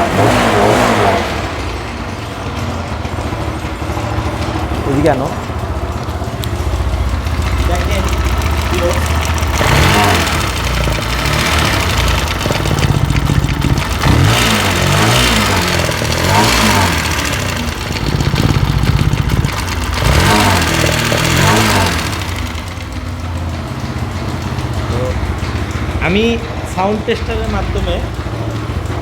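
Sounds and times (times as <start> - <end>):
engine mechanical noise: 0.0 - 29.0
motorcycle engine revving and idling: 0.0 - 29.0.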